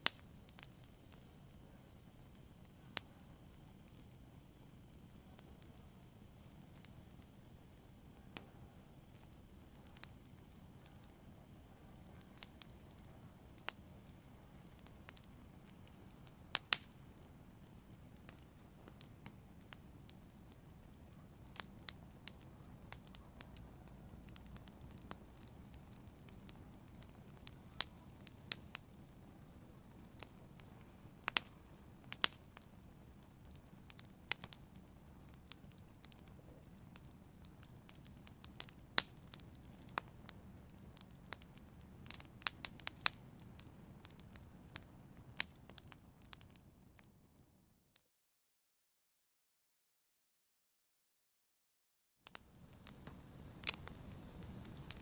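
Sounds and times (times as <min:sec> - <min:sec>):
wood fire crackling and popping: 0:00.0 - 0:47.4, 0:52.2 - 0:55.0.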